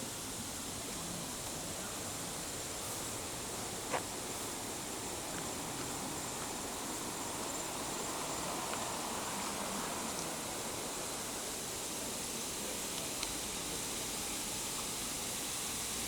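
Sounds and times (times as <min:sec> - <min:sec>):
distant flowing water: 0:00.0 - 0:16.0
faint high insect drone: 0:00.0 - 0:16.0.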